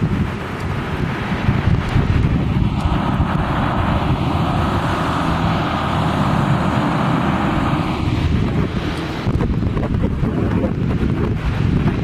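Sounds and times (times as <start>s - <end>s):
steady rushing hiss: 0.0s - 12.0s
wind buffeting microphone: 0.0s - 12.0s.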